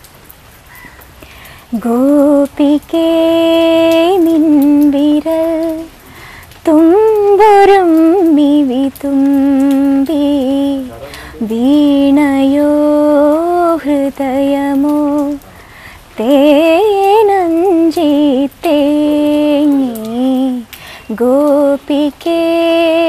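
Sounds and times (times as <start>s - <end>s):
woman singing unaccompanied: 1.6s - 23.0s.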